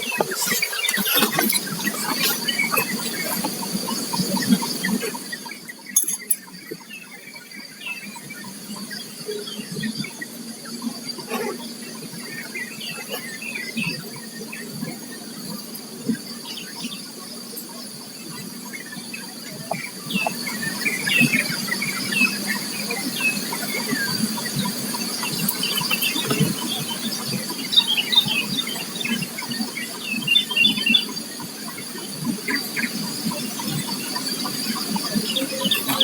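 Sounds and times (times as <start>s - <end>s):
high insect drone: 0.0s - 36.0s.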